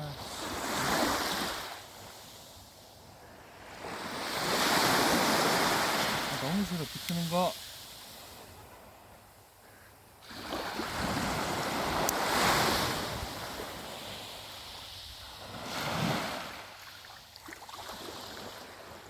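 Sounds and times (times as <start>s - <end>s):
sea waves washing in: 0.0s - 9.2s, 10.2s - 19.0s.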